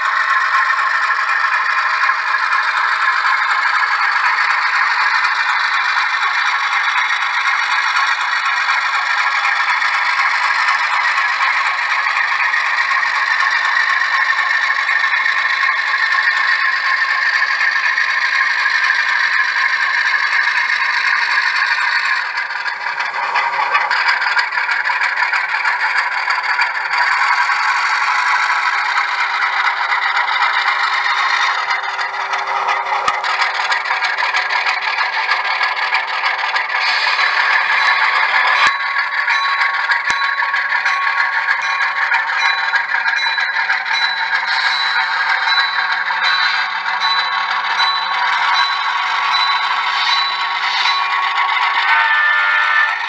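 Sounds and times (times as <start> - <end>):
model train wheels rattling on rails: 0.0 - 53.0.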